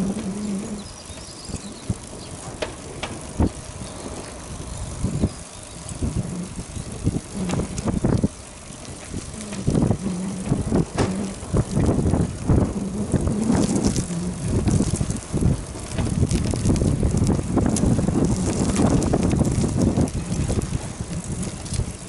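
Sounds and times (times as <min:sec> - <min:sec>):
bicycle rattling over road: 0:00.0 - 0:22.0.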